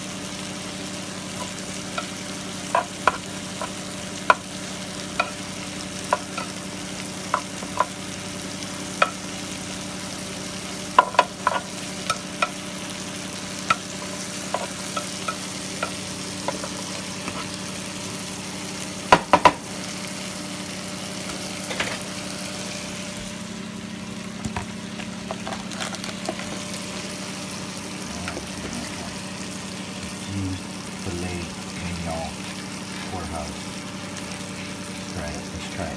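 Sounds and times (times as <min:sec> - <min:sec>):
meat sizzling in grill pan: 0:00.0 - 0:35.9.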